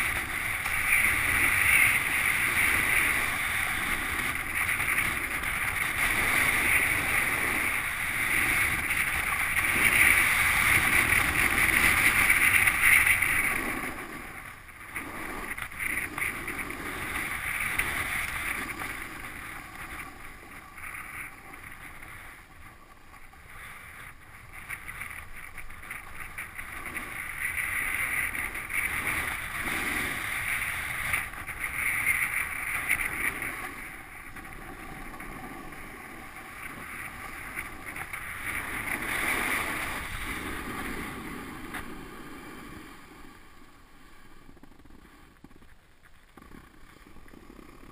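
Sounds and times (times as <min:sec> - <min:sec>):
wind rushing over microphone: 0:00.0 - 0:45.7
skis scraping over snow: 0:00.0 - 0:47.9.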